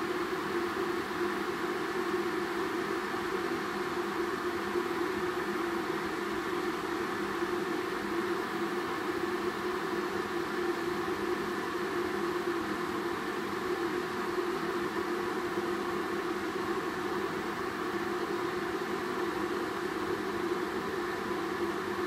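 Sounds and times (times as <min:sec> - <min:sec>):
electric kettle heating water: 0:00.0 - 0:22.0.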